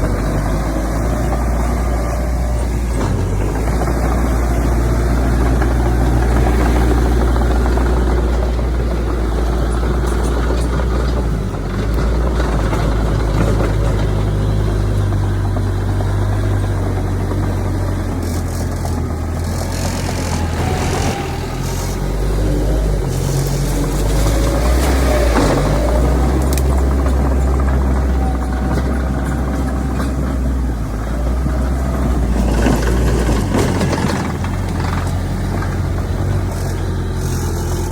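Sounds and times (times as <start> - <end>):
heavy diesel machinery engines: 0.0 - 37.9.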